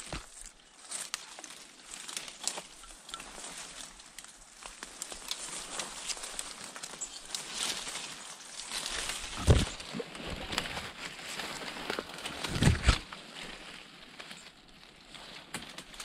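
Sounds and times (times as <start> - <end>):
twigs snapping: 0.0 - 10.9, 11.6 - 13.2, 15.4 - 16.0
branches swishing: 0.0 - 14.3
footsteps in brush: 0.0 - 16.0.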